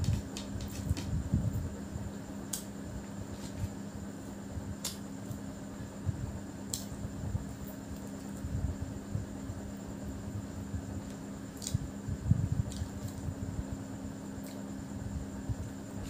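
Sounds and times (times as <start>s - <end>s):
fan hum: 0.0s - 16.0s.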